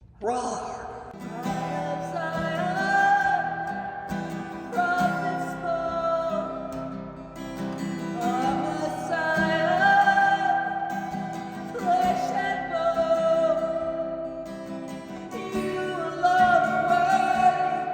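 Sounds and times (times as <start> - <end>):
person singing worship song: 0.2 - 17.9
strummed acoustic guitar: 1.1 - 17.9.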